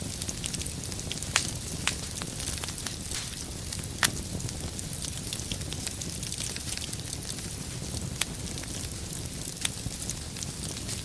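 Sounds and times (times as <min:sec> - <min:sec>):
low rumble of flames: 0:00.0 - 0:11.0
wood fire crackling: 0:00.0 - 0:11.0.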